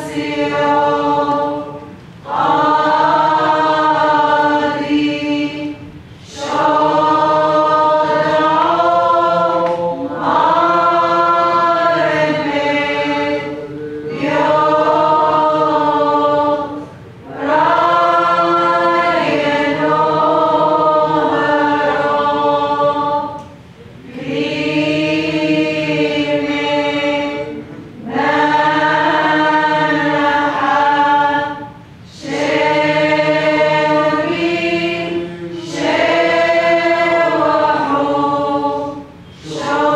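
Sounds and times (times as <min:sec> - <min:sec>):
church choir singing a hymn: 0:00.0 - 0:39.9.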